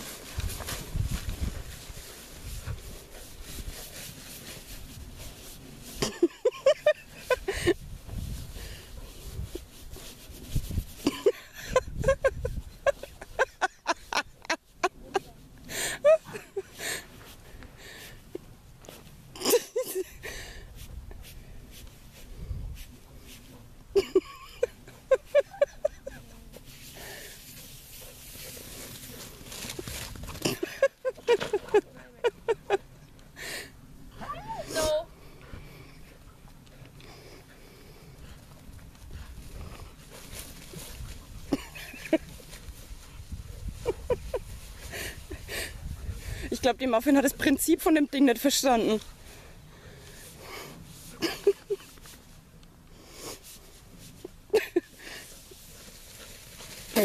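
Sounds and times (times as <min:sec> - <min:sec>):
rustling in tall grass: 0:00.0 - 0:34.9, 0:38.0 - 0:57.0
steady rushing hiss: 0:00.0 - 0:57.0.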